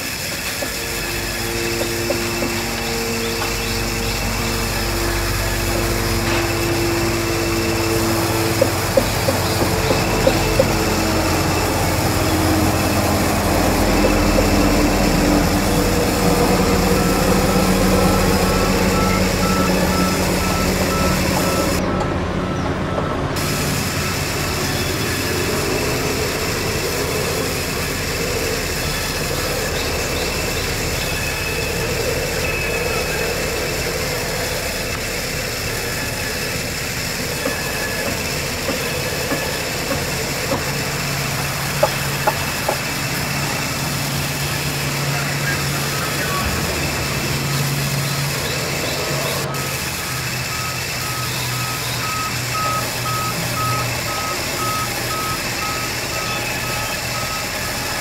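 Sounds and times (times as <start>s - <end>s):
sawmill machinery droning: 0.0s - 58.0s
steady whining tones: 0.0s - 58.0s.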